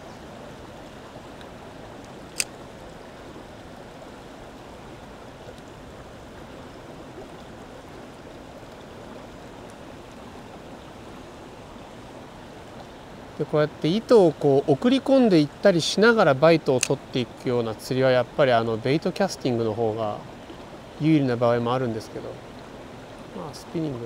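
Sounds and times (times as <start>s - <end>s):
stream flowing: 0.0s - 24.0s.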